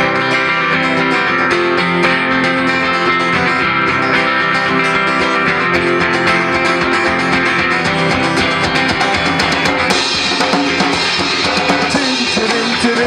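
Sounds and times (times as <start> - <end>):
electric guitar: 0.0 - 13.0
strummed acoustic guitar: 0.0 - 13.0.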